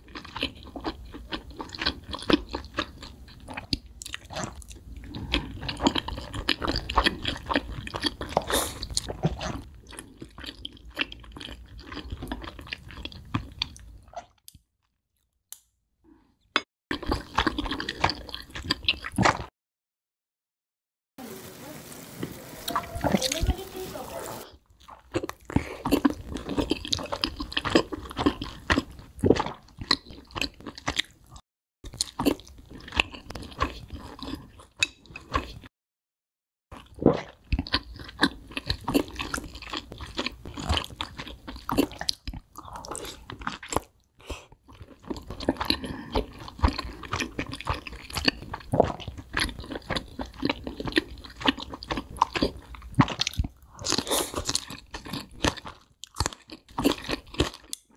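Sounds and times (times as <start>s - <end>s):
chewing and crunching chicken wings: 0.0s - 14.2s, 16.9s - 19.5s, 22.7s - 35.7s, 36.7s - 57.9s.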